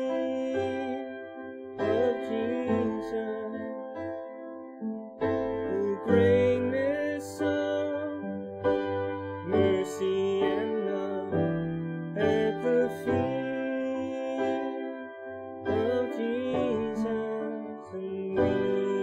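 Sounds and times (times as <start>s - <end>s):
keyboard music: 0.0s - 19.0s.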